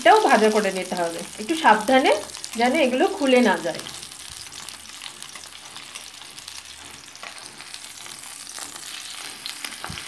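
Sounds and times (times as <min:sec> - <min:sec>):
cabbage sizzling in hot oil: 0:00.0 - 0:10.0.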